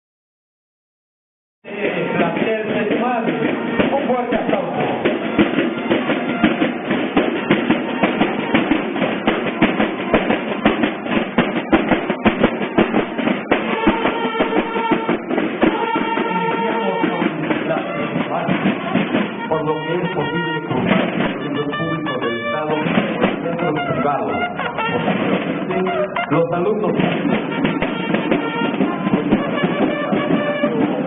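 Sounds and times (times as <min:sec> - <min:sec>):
bugles playing long notes: 0:01.7 - 0:31.0
snare and bass drums beating: 0:01.7 - 0:31.0.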